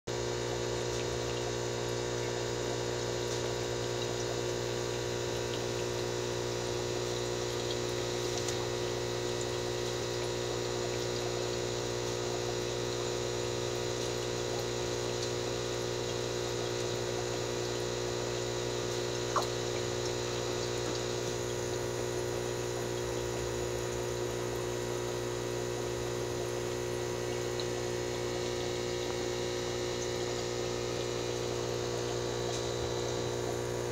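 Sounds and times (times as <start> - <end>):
aquarium air pump humming: 0.1 - 33.9
water bubbling: 0.6 - 33.9.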